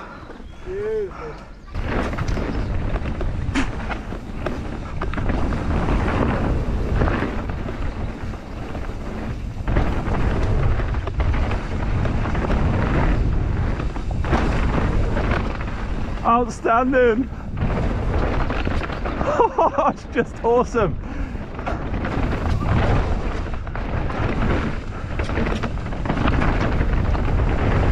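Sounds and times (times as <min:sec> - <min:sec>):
bike tyres rumbling over trail: 0:00.0 - 0:27.9
wind buffeting microphone: 0:00.0 - 0:27.9
bike knocks and rattles: 0:01.7 - 0:27.9.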